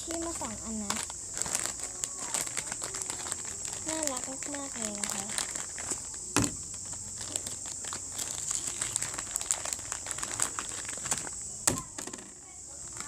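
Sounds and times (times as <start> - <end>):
packaging crinkling and rustling: 0.0 - 12.2, 12.8 - 13.0.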